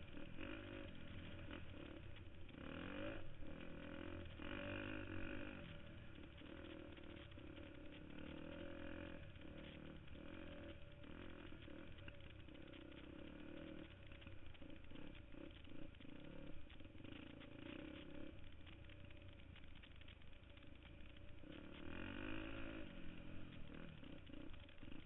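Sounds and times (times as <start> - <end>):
dirt bike engine revving: 0.0 - 20.6, 21.2 - 25.0
bike rattling over rough ground: 0.0 - 25.0.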